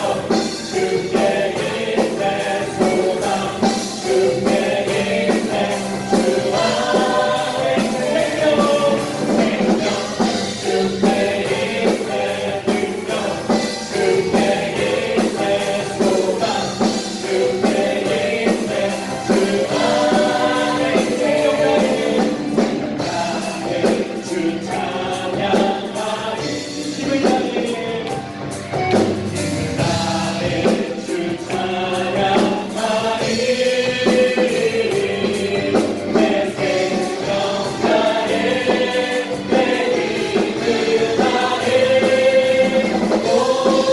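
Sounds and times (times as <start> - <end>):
band playing a steady beat: 0.0 - 43.9
group singing a gospel song: 0.0 - 43.9.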